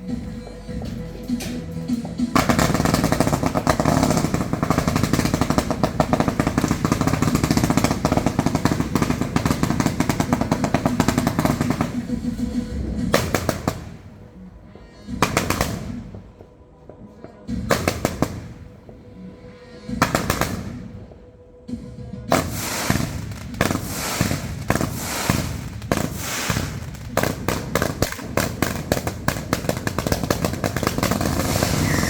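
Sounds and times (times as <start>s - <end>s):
music playing: 0.0s - 32.0s
fireworks popping: 1.4s - 14.4s, 15.1s - 16.5s, 17.5s - 19.1s, 19.9s - 21.1s, 22.3s - 32.0s.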